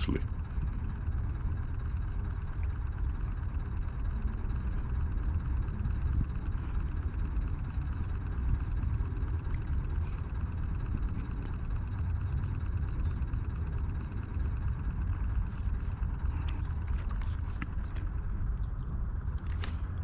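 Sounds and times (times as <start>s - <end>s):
wind buffeting microphone: 0.3s - 20.0s.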